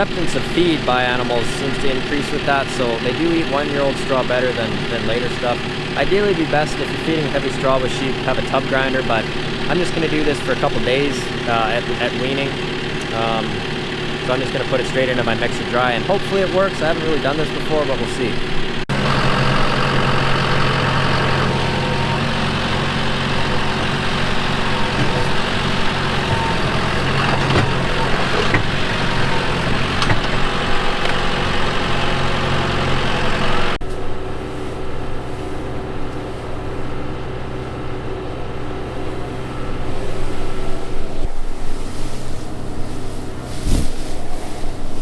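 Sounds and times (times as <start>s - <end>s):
farm machinery engine running: 0.0s - 45.0s.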